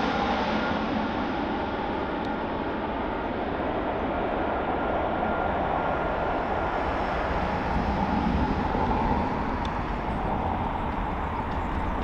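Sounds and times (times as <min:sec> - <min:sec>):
jet engines rumble and hiss: 0:00.0 - 0:12.0.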